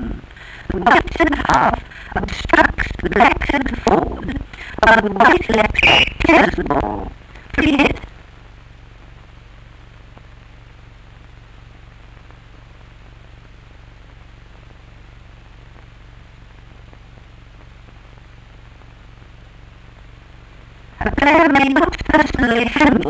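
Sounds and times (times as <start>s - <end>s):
film soundtrack hiss: 0.0s - 23.0s
low hum: 0.0s - 23.0s.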